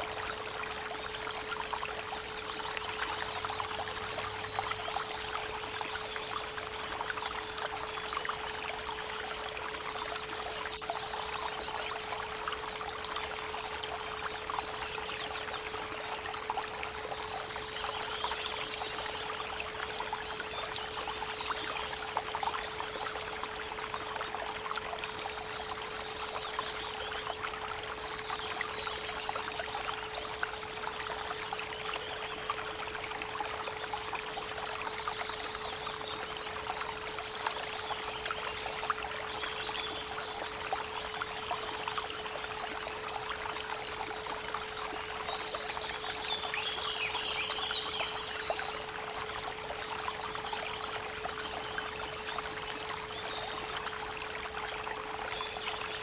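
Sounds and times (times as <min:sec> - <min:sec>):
creek water babbling: 0:00.0 - 0:56.0
songbirds chirping: 0:00.0 - 0:56.0.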